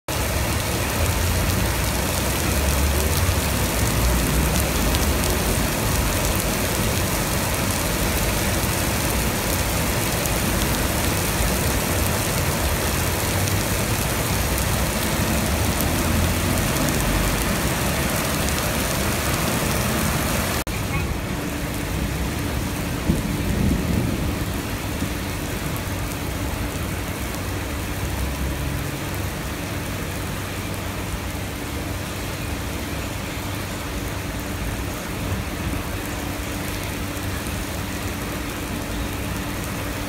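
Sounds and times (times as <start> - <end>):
heavy rain splashing into water: 0.1 - 40.0.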